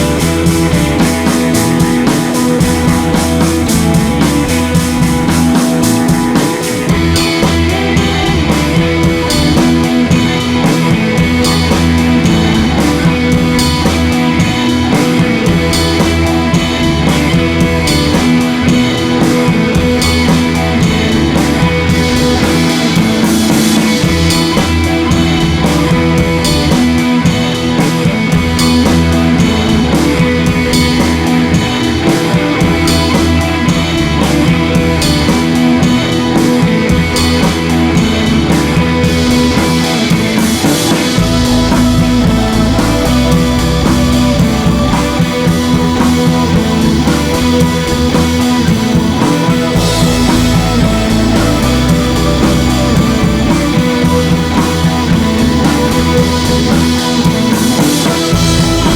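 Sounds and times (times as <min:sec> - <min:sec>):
drum-kit beat: 0:00.0 - 0:58.9
electric guitar: 0:00.0 - 0:58.9
rock music: 0:00.0 - 0:58.9.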